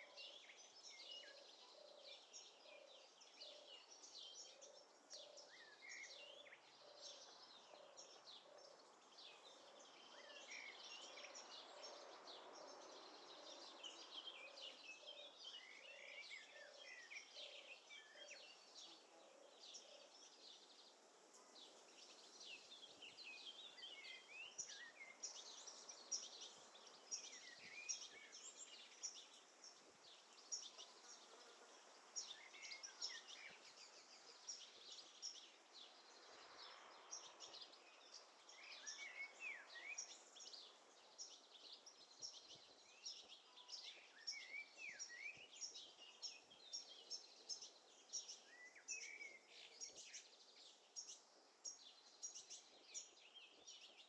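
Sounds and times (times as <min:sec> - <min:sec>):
faint background hiss: 0:00.0 - 0:54.0
small birds chirping: 0:00.0 - 0:54.0.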